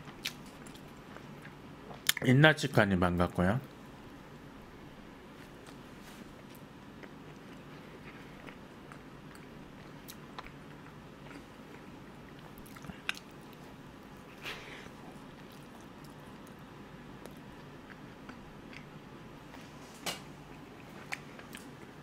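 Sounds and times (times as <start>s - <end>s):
person chewing pastry: 0.0s - 2.2s, 5.5s - 19.8s, 20.4s - 22.0s.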